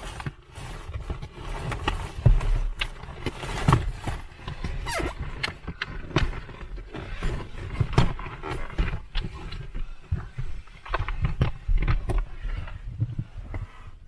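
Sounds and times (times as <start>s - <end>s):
plastic box knocking and scraping: 0.0s - 13.7s.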